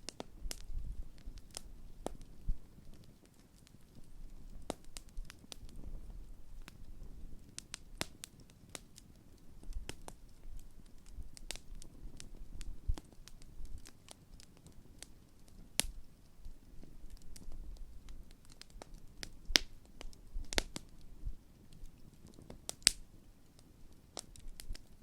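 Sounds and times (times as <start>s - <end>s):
campfire crackling: 0.0s - 25.0s
low rumble of flame: 0.0s - 25.0s
sharp pops from burning logs: 0.0s - 25.0s.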